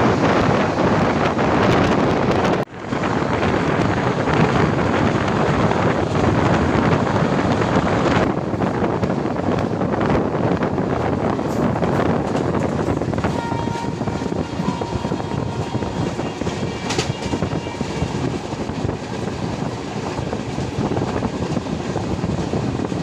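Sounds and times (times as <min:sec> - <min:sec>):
train rushing at speed: 0:00.0 - 0:23.0
wind buffeting microphone: 0:00.0 - 0:23.0.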